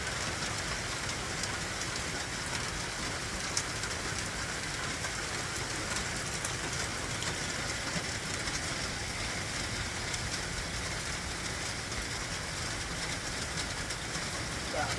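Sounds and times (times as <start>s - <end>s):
steady rain hissing: 0.0s - 14.9s
raindrop ticks: 0.1s - 14.9s.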